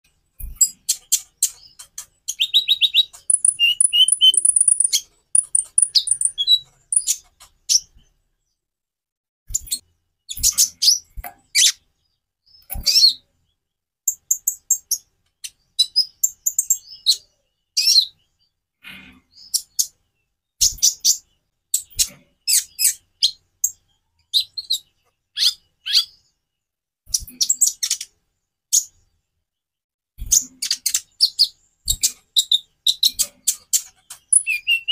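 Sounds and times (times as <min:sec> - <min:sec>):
bird chirping and trilling: 0:00.4 - 0:08.1, 0:09.5 - 0:26.3, 0:30.2 - 0:34.9.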